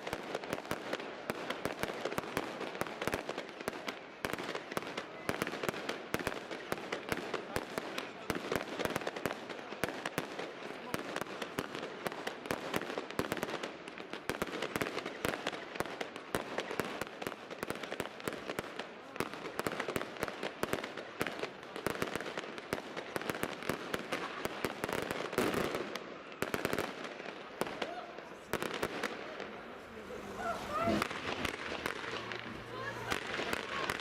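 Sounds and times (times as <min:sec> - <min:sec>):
fireworks cracking and banging: 0:00.0 - 0:34.0.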